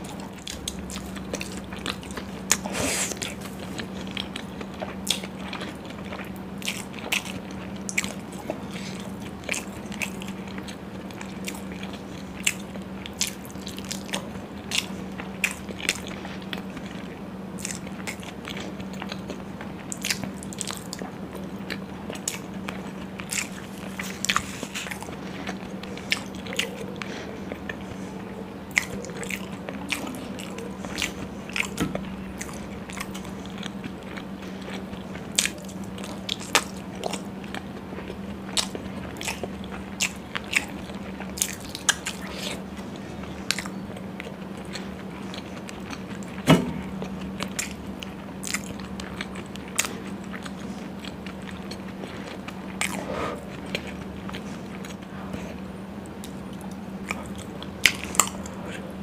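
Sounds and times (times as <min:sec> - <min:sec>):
steady low hum: 0:00.0 - 0:59.0
wet chewing with mouth clicks: 0:00.0 - 0:59.0.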